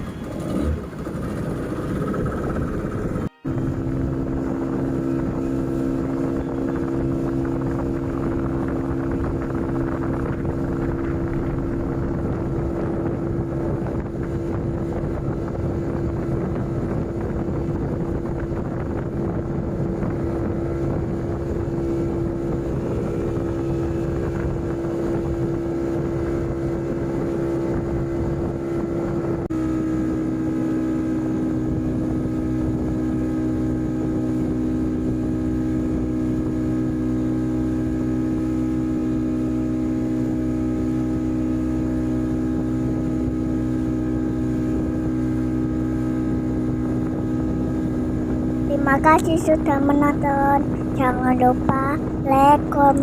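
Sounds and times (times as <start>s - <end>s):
motorboat engine running: 0.0s - 53.0s
wind noise on microphone: 0.0s - 53.0s.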